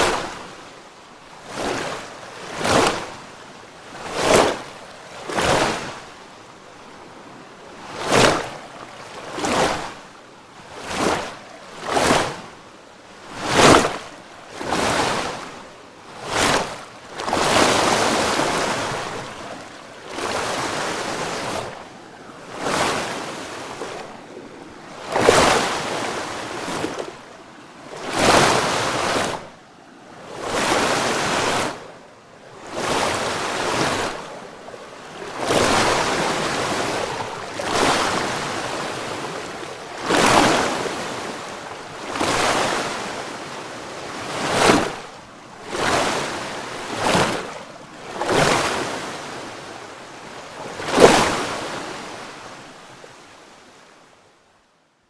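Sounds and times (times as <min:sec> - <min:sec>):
ocean waves breaking: 0:00.0 - 0:54.1.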